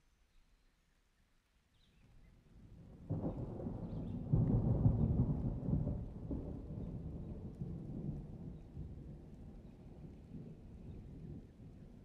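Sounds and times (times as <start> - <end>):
rain: 0.0 - 12.0.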